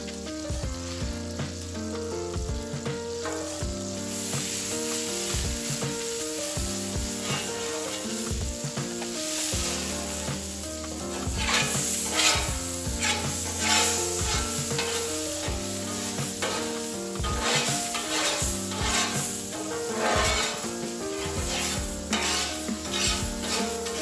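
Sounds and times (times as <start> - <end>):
butter sizzling on griddle: 0.0 - 24.0
metal spatula scraping griddle: 2.8 - 24.0.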